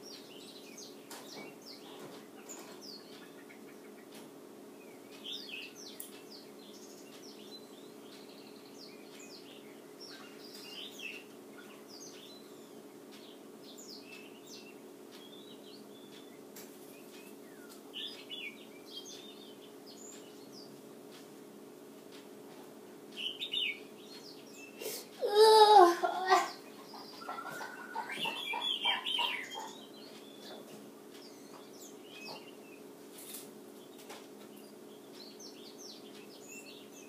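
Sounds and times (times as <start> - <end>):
birds chirping: 0.0 - 37.0
low electrical hum: 0.0 - 37.0.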